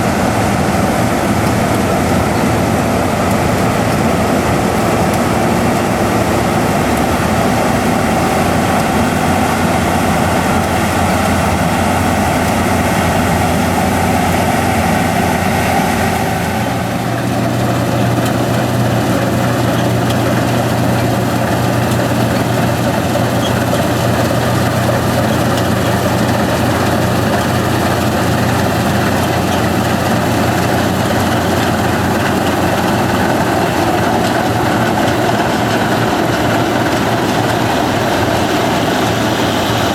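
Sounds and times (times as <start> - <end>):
farm machinery engines running: 0.0 - 39.9.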